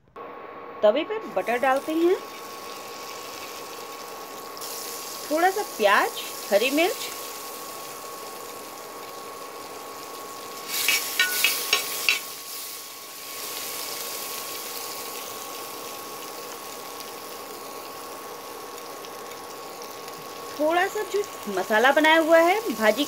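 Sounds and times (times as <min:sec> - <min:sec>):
onion sizzling in butter: 0:01.2 - 0:23.0.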